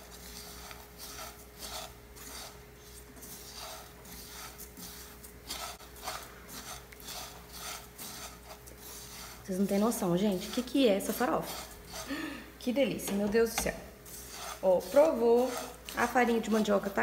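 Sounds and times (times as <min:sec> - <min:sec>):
spatula scraping a frying pan: 0:00.0 - 0:12.3, 0:13.1 - 0:17.0.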